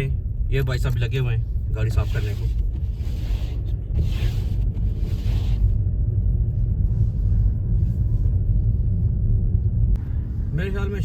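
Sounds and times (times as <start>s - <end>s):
car driving low rumble: 0.0s - 11.0s.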